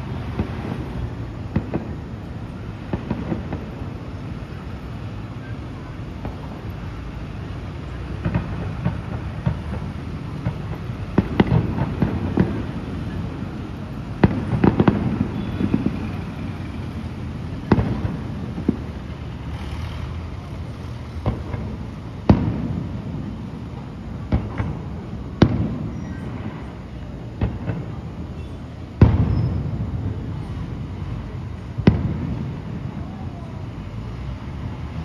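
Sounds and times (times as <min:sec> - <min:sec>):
firework bangs echoing: 0:00.0 - 0:33.6.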